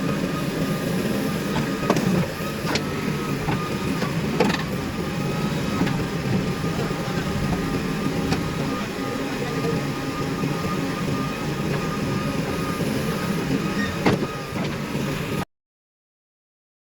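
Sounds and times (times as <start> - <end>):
diesel engines of heavy machinery: 0.0 - 15.5.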